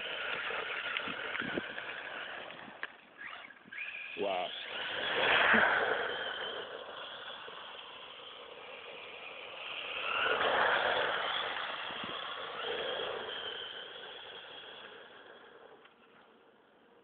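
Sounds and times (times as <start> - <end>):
tyre noise on asphalt: 0.0 - 4.0, 4.6 - 17.0
rc car motor whine: 0.0 - 17.0.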